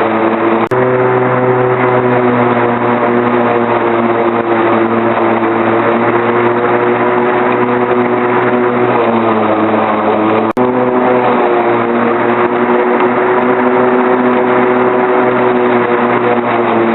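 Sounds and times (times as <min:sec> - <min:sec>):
lawnmower engine running: 0:00.0 - 0:16.9.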